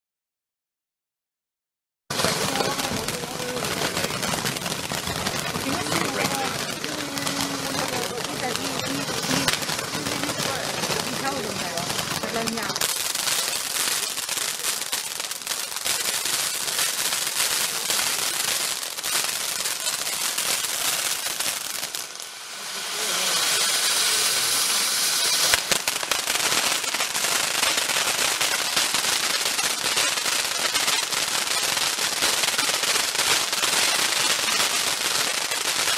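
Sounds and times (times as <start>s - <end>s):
firework fountain hissing: 2.1s - 35.9s
fireworks crackling and popping: 2.1s - 35.9s
sharp firework crack: 2.1s - 35.9s.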